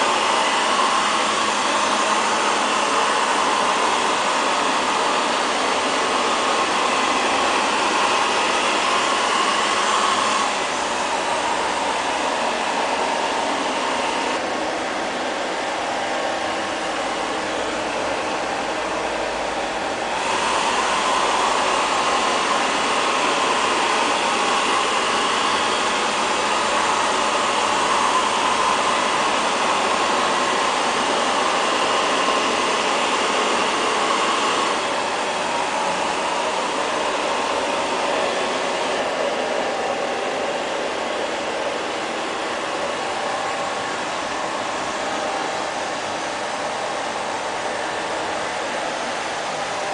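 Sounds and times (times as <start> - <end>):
robot vacuum whirring: 0.0 - 14.3, 20.1 - 46.4.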